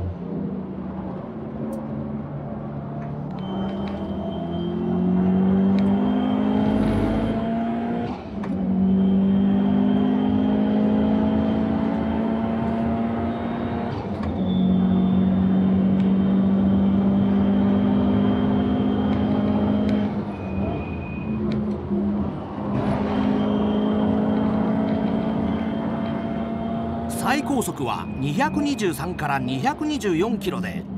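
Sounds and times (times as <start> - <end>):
turbocharged car engine accelerating: 3.3 - 29.8.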